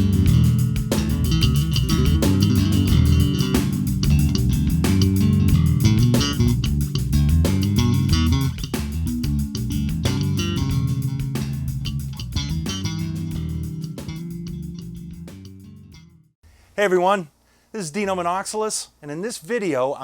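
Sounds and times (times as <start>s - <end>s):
electric bass guitar: 0.0s - 16.3s.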